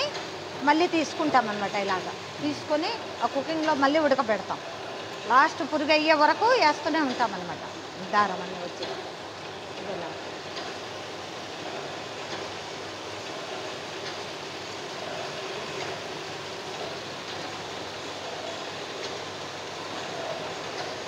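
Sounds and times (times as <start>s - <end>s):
machine whirring: 0.0s - 21.0s.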